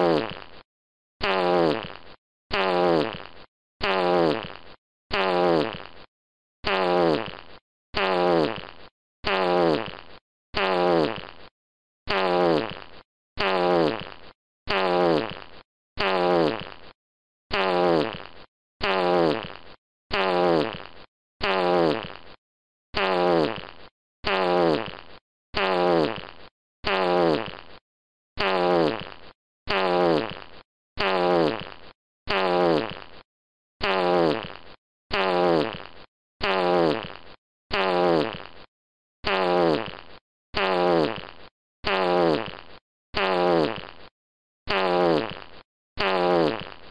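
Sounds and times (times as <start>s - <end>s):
fart sound effect: 0.0s - 0.6s, 1.2s - 11.5s, 12.1s - 22.4s, 23.0s - 27.8s, 28.4s - 44.1s, 44.7s - 46.9s.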